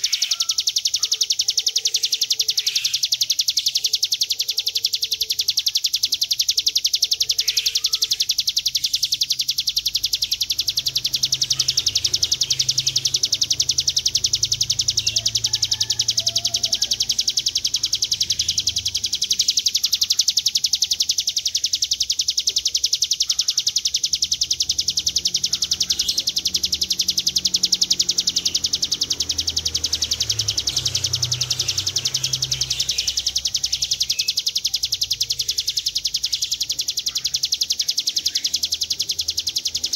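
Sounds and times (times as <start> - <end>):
bird buzzing trill: 0.0 - 39.9.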